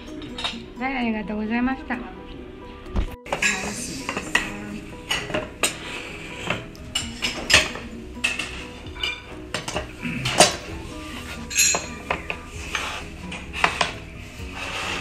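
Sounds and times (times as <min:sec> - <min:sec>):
utensils clinking on ceramic plates: 0:00.0 - 0:00.8, 0:03.2 - 0:15.0.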